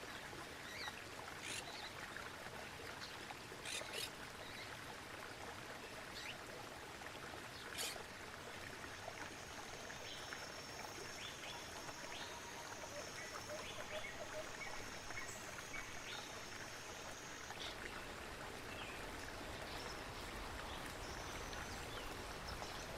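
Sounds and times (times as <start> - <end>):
running water: 0.0 - 22.9.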